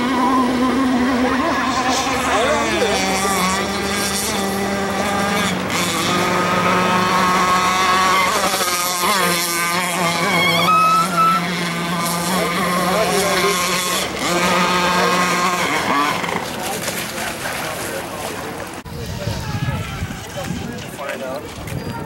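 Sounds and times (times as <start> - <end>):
model motorboat engine droning: 0.0 - 22.0.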